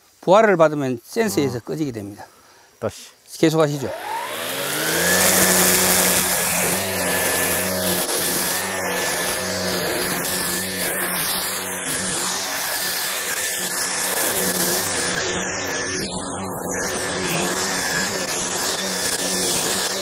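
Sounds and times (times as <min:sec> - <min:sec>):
brush cutter running: 0:03.8 - 0:20.0.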